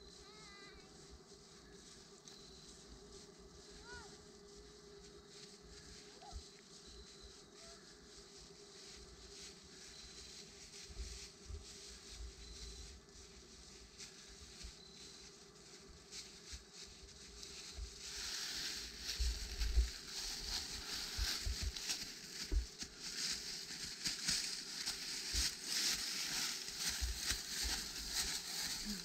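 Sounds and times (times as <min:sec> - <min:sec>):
footsteps crunching through dry leaves: 0:00.0 - 0:29.0.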